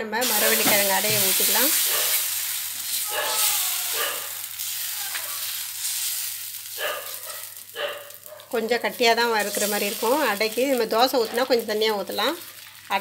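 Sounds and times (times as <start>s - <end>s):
batter sizzling on pan: 0.2s - 13.0s.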